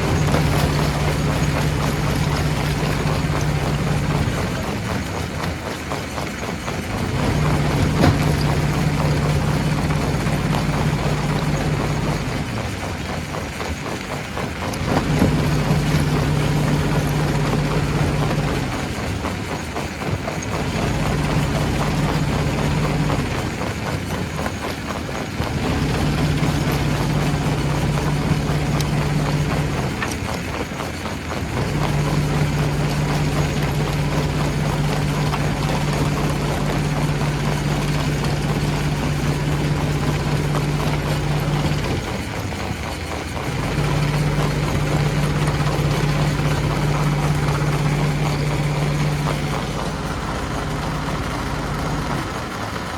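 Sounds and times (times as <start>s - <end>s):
machinery rattling and clattering: 0.0s - 52.9s
stone crusher low hum: 0.0s - 52.9s.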